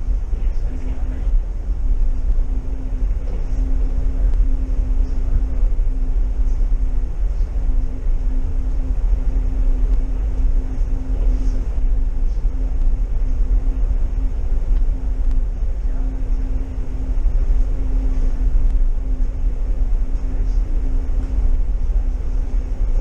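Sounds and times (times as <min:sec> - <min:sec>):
steady hum: 0:00.0 - 0:23.0
train cabin rumble: 0:00.0 - 0:23.0.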